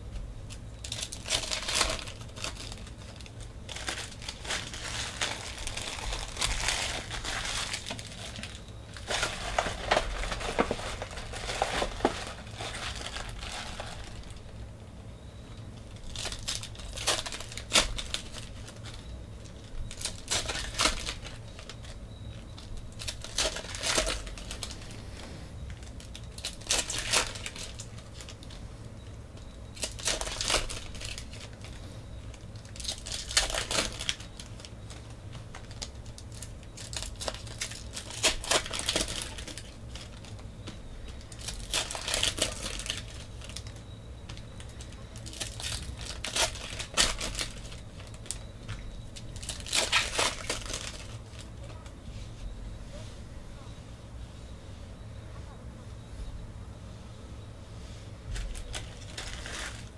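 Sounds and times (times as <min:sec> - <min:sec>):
foil wrappers tearing and crinkling: 0:00.0 - 0:14.6, 0:15.8 - 0:25.0, 0:25.7 - 0:28.6, 0:29.7 - 0:51.8, 0:58.3 - 0:59.9
low steady hum: 0:00.0 - 0:59.9.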